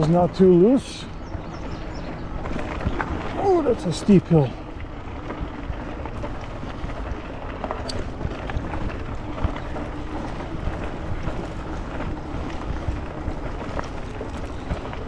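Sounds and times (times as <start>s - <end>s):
tyres rolling over gravel: 0.0s - 15.0s.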